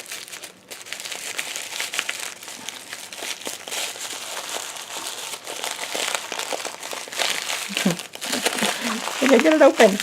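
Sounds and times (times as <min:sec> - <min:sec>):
gift wrapping crinkling: 0:00.0 - 0:10.0.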